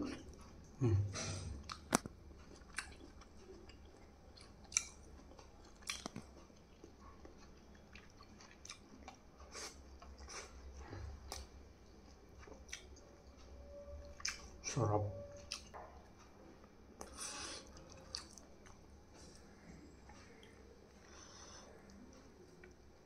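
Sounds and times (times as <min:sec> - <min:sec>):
person chewing food: 0:00.0 - 0:14.6, 0:15.3 - 0:23.0.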